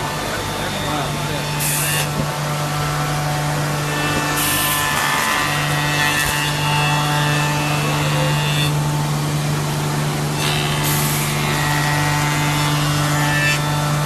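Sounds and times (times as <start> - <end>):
high hiss of cutters milling wood: 0.0 - 14.0
wood shaper machine humming: 0.0 - 14.0.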